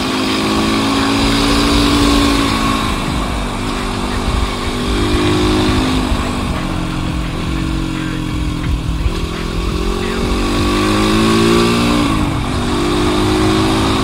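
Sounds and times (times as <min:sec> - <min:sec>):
motorcycle engine at speed: 0:00.0 - 0:14.0
steady rushing noise: 0:00.0 - 0:14.0.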